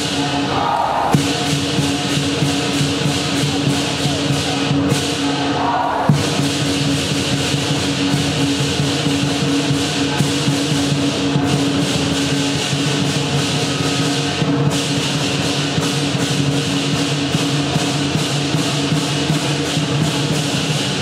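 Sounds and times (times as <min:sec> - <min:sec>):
cymbals crashing: 0:00.0 - 0:21.0
drum beating: 0:00.0 - 0:21.0.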